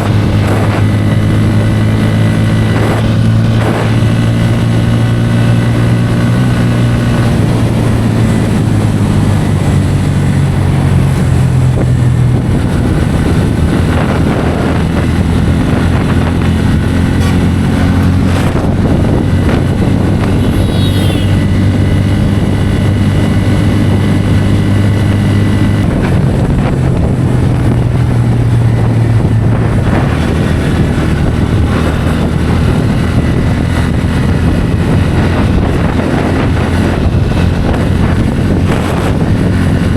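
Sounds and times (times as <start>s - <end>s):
motorcycle engine at speed: 0.0s - 39.9s
wind rush on microphone: 0.0s - 39.9s.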